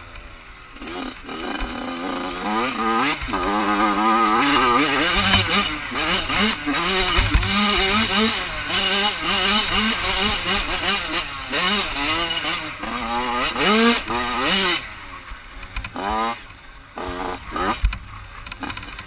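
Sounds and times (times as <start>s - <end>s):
two-stroke engine revving: 0.7s - 15.1s, 15.8s - 19.0s.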